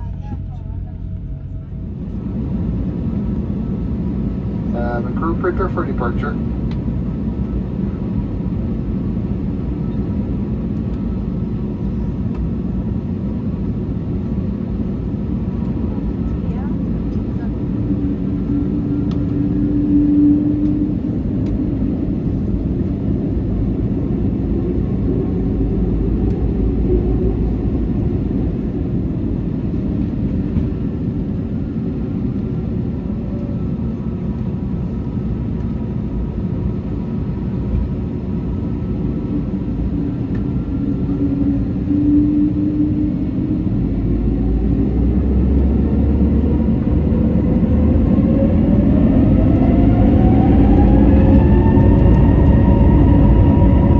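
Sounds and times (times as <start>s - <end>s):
jet engines heard from cabin: 0.0s - 53.9s.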